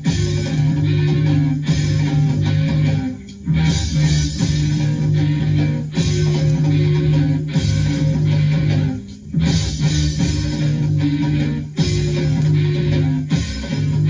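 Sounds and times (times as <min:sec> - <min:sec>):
hard rock band playing: 0:00.0 - 0:14.0.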